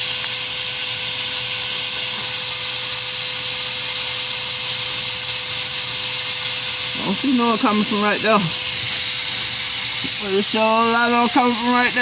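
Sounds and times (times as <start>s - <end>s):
wet vacuum running: 0.0s - 12.0s.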